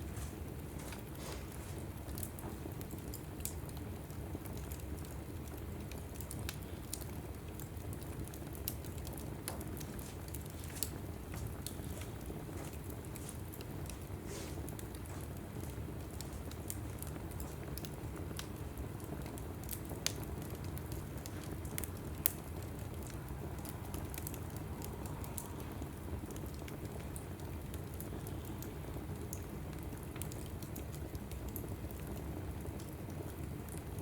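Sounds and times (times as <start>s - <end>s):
fire popping: 0.0s - 34.0s
log fire crackling: 0.0s - 34.0s
rustle of flames: 0.0s - 34.0s.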